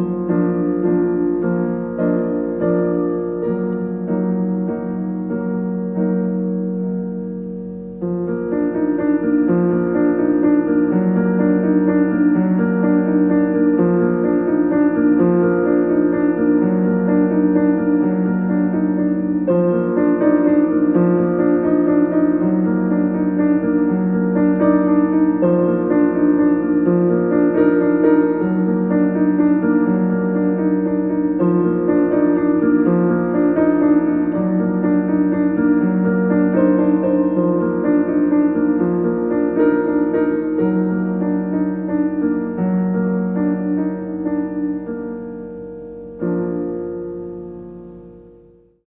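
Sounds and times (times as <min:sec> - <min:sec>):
solo piano: 0:00.0 - 0:48.9.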